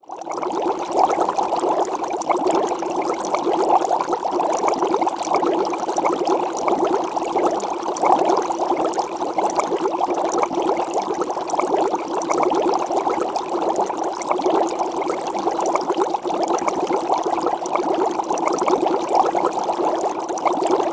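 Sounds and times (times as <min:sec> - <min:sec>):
water bubbling and gurgling: 0:00.0 - 0:20.9.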